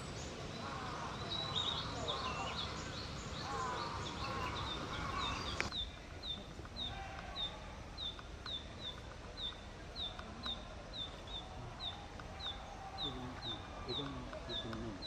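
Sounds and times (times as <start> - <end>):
bird warbling: 0.0 - 15.0.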